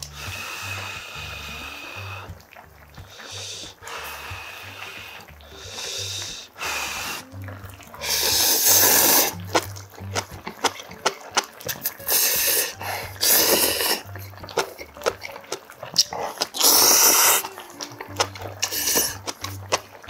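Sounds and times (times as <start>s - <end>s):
man slurping noodles: 0.0s - 2.4s, 3.0s - 20.0s
soft background music: 0.0s - 20.0s
wet chewing clicks: 0.0s - 20.0s.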